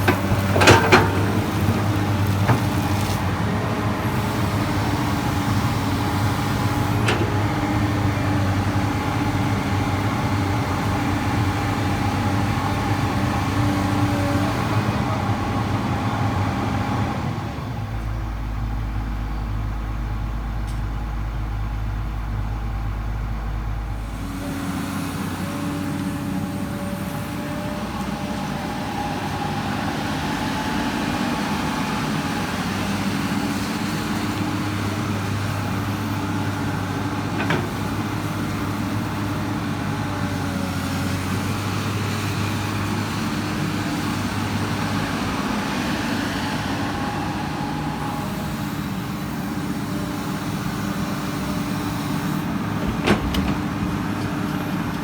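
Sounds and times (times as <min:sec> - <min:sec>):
excavator diesel engine working: 0:00.0 - 0:55.0.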